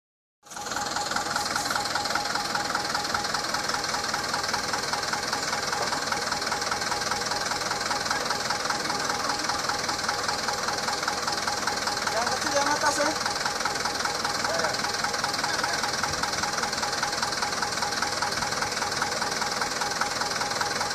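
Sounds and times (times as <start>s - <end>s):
truck diesel engine running: 0.4s - 20.9s.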